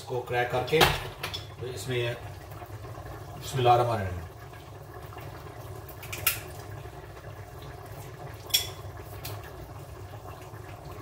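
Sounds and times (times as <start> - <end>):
kitchen background noise: 0.0 - 11.0.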